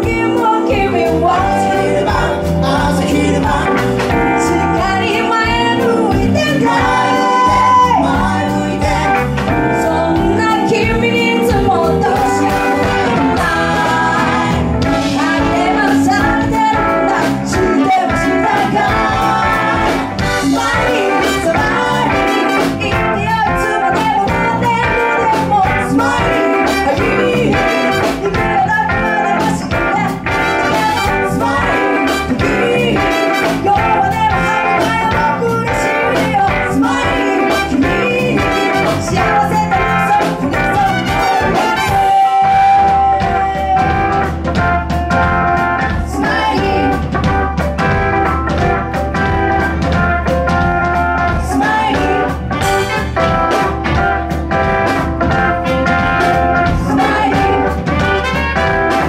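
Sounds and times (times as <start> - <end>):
singers singing together: 0.0 - 43.9, 45.9 - 47.0, 51.4 - 53.6, 56.3 - 58.3
electric guitar: 0.0 - 59.0
keyboard: 0.0 - 59.0.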